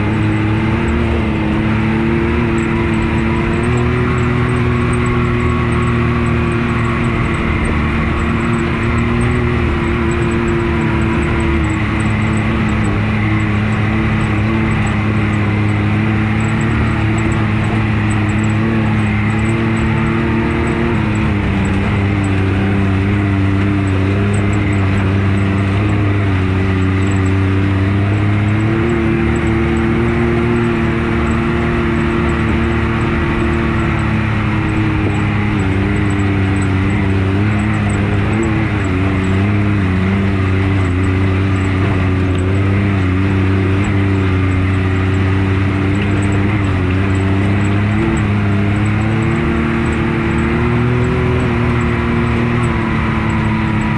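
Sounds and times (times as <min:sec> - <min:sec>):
road and wind noise: 0:00.0 - 0:53.9
vehicle engine cruising: 0:00.0 - 0:53.9.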